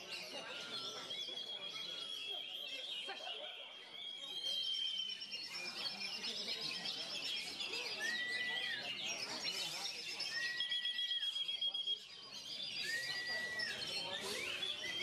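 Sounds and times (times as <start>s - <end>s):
long steady bird whistle: 0.0s - 15.0s
songbirds singing: 0.0s - 15.0s.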